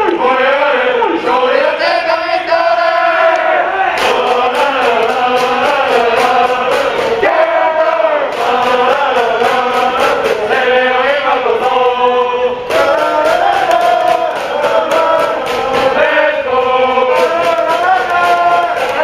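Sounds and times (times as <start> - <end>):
crowd singing in unison: 0.0 - 19.0.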